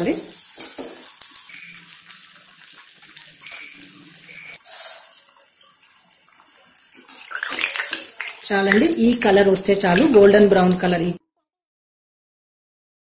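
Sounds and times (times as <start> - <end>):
food deep-frying in oil: 0.0 - 11.2.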